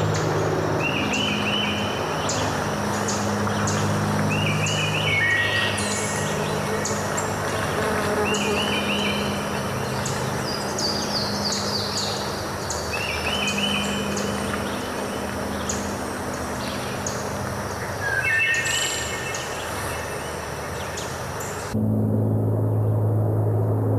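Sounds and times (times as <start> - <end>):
songbirds chirping: 0.0 - 21.8.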